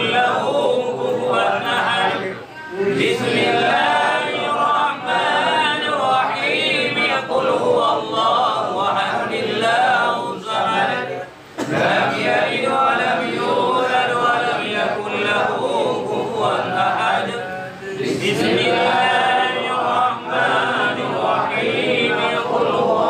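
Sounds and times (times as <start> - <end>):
men chanting prayers: 0.0 - 23.0.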